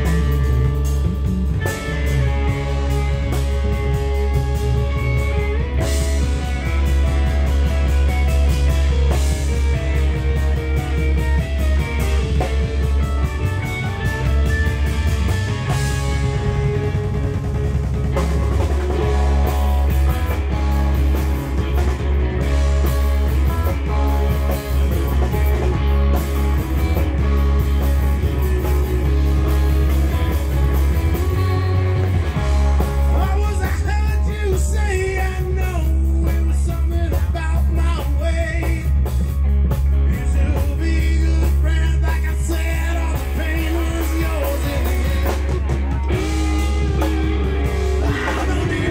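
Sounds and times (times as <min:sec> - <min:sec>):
drum kit with cymbal crashes: 0:00.0 - 0:48.9
electric guitars: 0:00.0 - 0:48.9
heavy bass line: 0:00.0 - 0:48.9.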